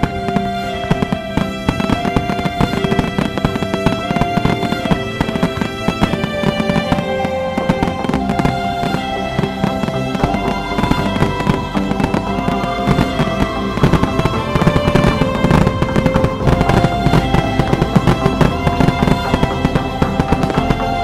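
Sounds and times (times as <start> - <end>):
fireworks crackling and popping: 0.0 - 21.0
music with sustained notes: 0.0 - 21.0.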